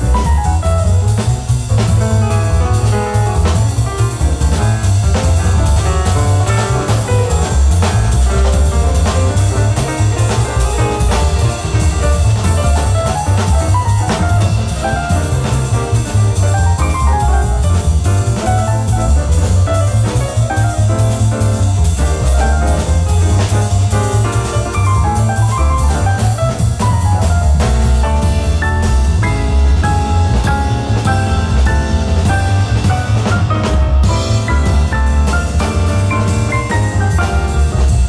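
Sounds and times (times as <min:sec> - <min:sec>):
double bass line: 0:00.0 - 0:38.0
jazz quartet playing: 0:00.0 - 0:38.0.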